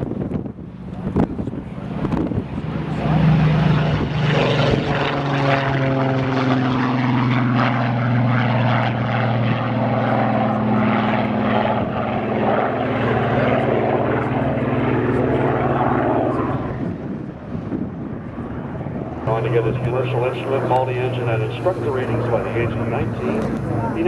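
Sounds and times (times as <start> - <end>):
propeller aircraft engine running: 0.0 - 24.0.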